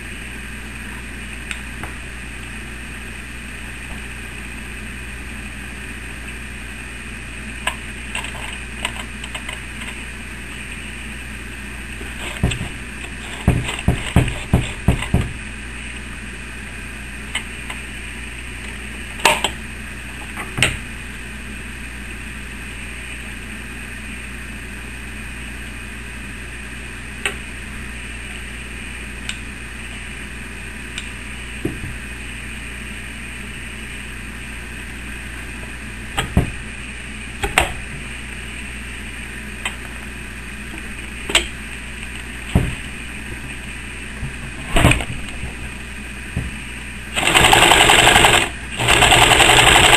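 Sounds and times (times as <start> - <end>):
steady background hum: 0.0 - 49.9.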